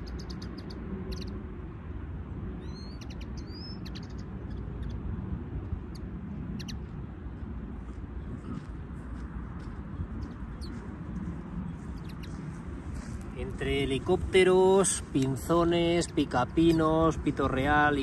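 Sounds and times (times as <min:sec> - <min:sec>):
songbirds chirping: 0:00.0 - 0:01.5, 0:02.6 - 0:05.1, 0:05.7 - 0:18.0.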